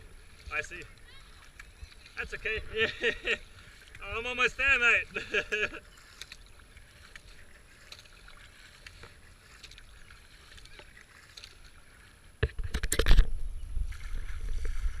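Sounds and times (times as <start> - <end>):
water drips and splashes: 0.0 - 12.8, 13.8 - 15.0
kayak paddle strokes: 0.0 - 15.0.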